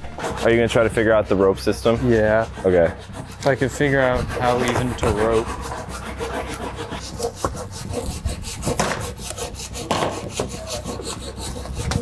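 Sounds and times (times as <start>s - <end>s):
hand saw cutting plywood: 0.0s - 12.0s.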